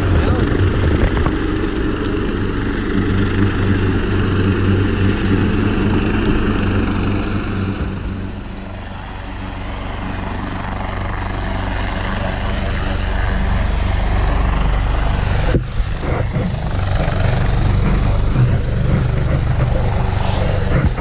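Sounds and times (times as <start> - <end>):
helicopter hovering: 0.0 - 21.0.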